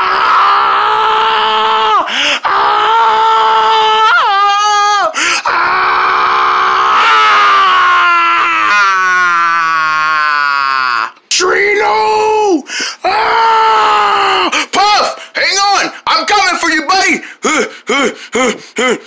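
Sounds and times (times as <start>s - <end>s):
person screaming: 0.0s - 19.0s.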